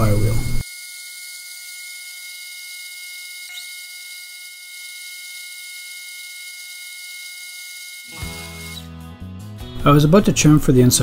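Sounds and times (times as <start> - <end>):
lathe motor whining: 0.0 - 8.9.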